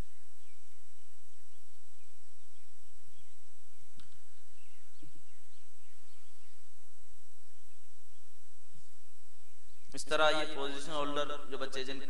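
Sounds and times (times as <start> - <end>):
faint bird chirps: 0.0 - 12.0
steady background hiss: 0.0 - 12.0.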